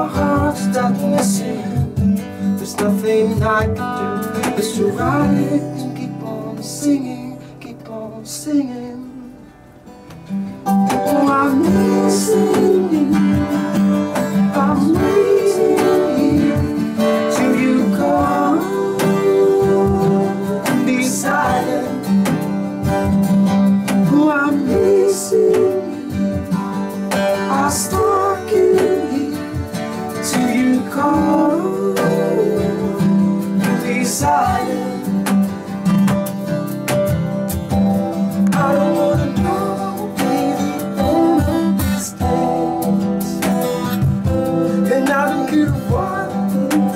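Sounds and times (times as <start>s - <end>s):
man singing: 0.0s - 9.4s, 10.7s - 23.0s, 23.9s - 35.6s, 38.4s - 46.9s
acoustic guitars strumming: 0.0s - 46.9s.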